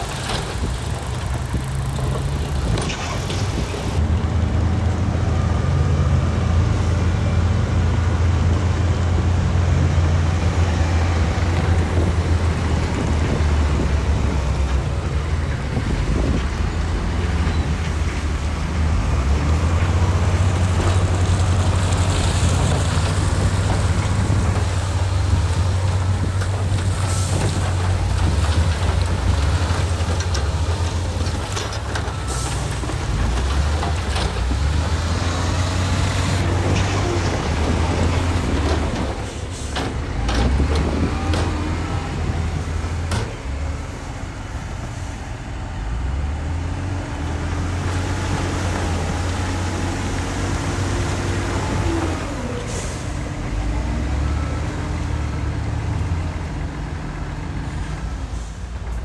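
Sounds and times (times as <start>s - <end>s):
heavy diesel engines working: 0.0s - 59.0s.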